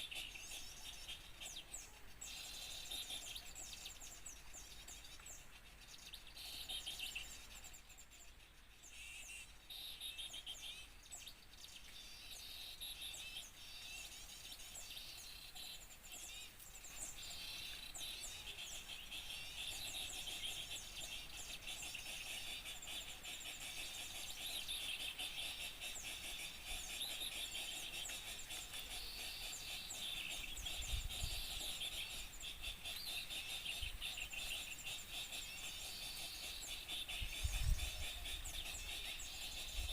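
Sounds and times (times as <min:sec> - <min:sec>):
small birds chirping chorus: 0:00.0 - 0:39.9.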